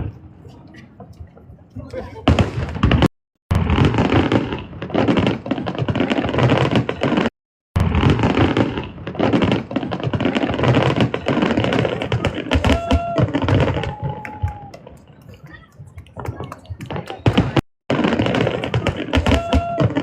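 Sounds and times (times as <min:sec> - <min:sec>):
fireworks crackling and banging: 0:00.0 - 0:20.0.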